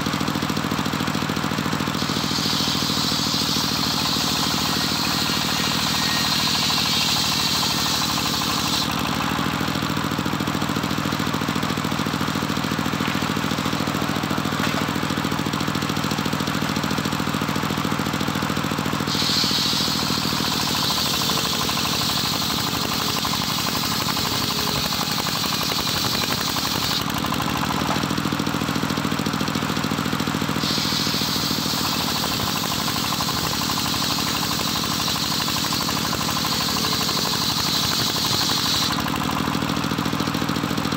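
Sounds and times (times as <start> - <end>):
circular saw ripping timber: 1.4 - 17.3, 18.0 - 40.9.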